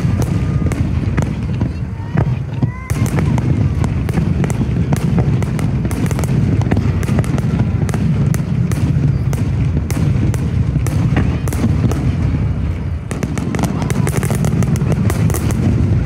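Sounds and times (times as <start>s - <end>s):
firework cracks and pops: 0.0s - 16.0s
fireworks rumble: 0.0s - 16.0s.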